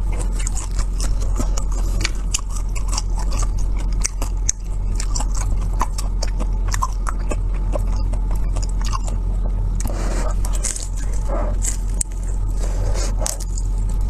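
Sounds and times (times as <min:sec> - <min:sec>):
crisp chewing and biting: 0:00.0 - 0:14.0
steady low hum: 0:00.0 - 0:14.0.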